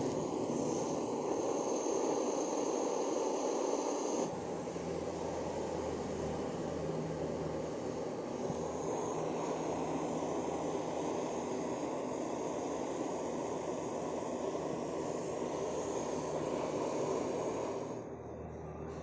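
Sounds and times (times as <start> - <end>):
butane torch hissing: 0.0 - 18.2.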